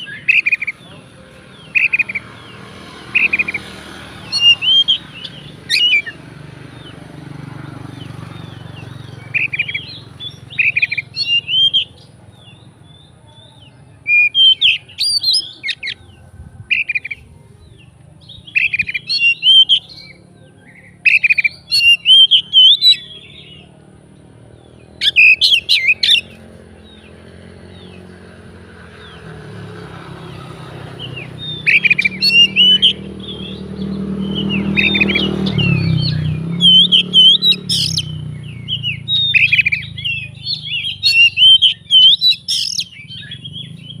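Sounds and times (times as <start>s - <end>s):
songbird singing varied phrases: 0.0s - 44.0s.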